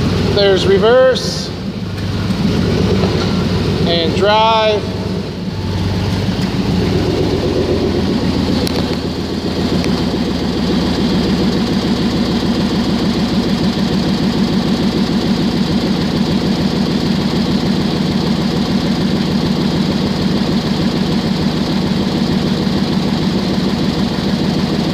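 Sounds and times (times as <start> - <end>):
pickup engine idling: 0.0 - 24.9.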